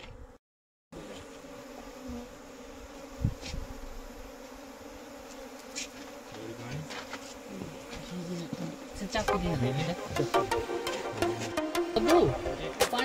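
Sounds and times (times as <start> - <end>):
honeybees buzzing: 1.0 - 13.0.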